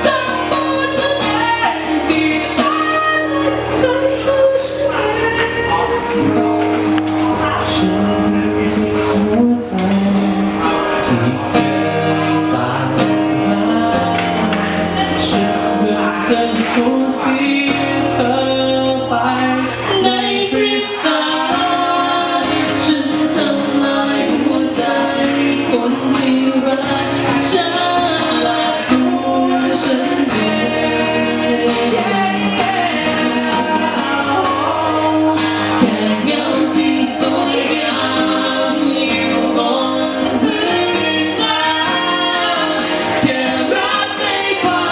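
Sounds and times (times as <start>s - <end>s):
band playing with lead vocal: 0.0s - 44.9s.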